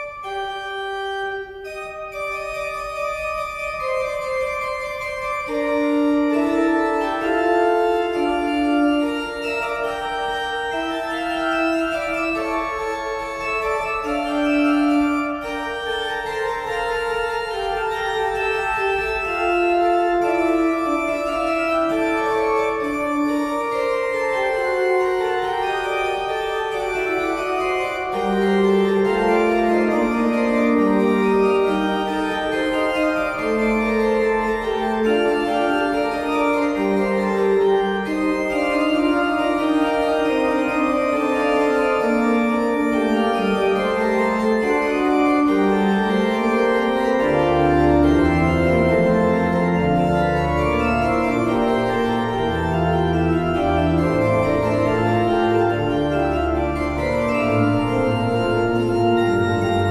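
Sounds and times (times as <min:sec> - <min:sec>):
deep organ bass notes: 0:00.0 - 0:59.9
pipe organ playing: 0:00.0 - 0:59.9.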